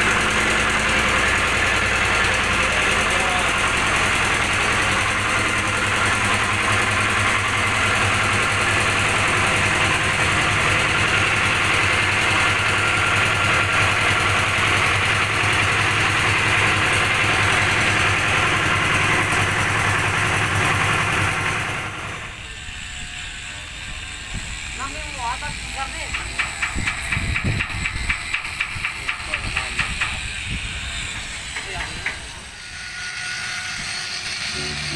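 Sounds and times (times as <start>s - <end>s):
engine idling: 0.0s - 32.4s.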